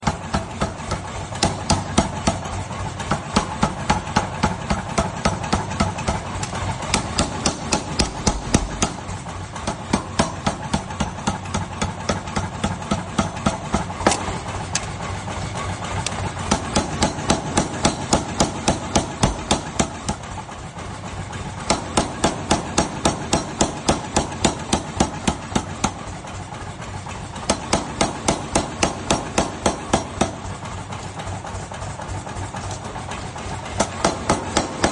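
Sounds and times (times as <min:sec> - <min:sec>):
hammer striking hot metal: 0:00.0 - 0:14.9, 0:16.1 - 0:20.6, 0:21.6 - 0:31.6, 0:32.3 - 0:34.9.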